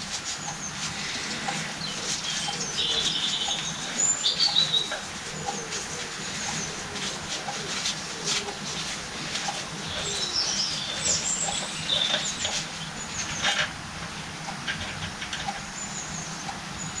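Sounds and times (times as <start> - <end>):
small birds chirping: 0.0 - 13.7, 15.5 - 17.0.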